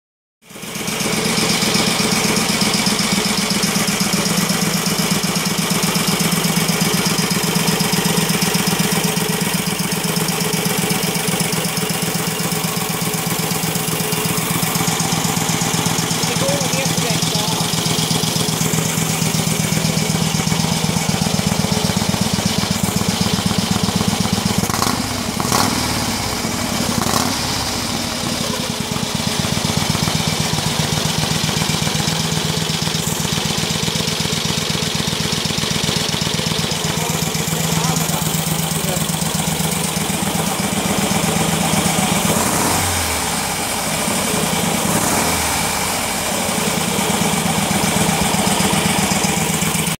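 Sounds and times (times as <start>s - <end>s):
motorcycle engine idling: 0.4s - 49.9s.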